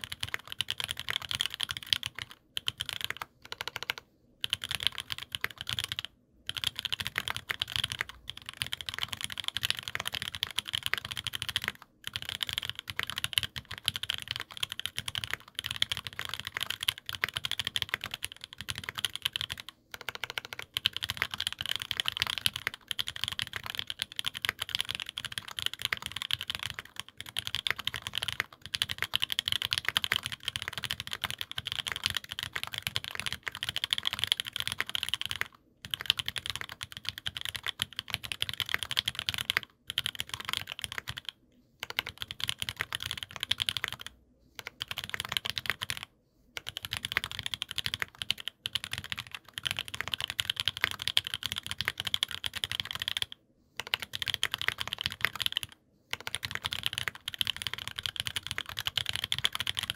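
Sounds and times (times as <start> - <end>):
fast keyboard typing clacks: 0.0 - 59.9.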